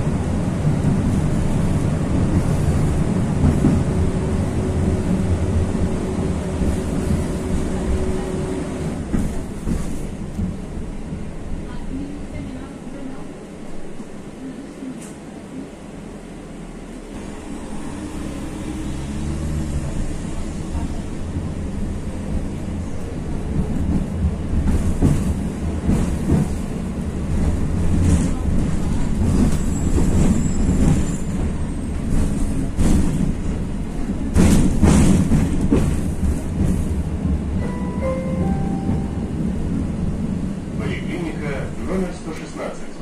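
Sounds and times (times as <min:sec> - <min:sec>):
tram wheels clacking over rail joints: 0:00.0 - 0:12.5, 0:17.1 - 0:43.0.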